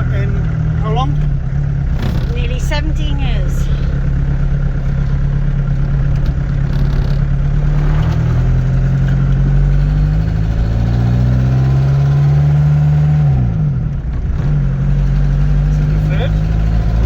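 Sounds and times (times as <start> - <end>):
van engine accelerating: 0.0 - 17.0.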